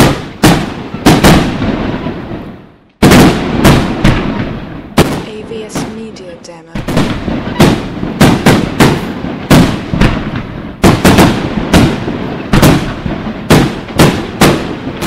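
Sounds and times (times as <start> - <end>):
fireworks bursting bangs: 0.0 - 15.0.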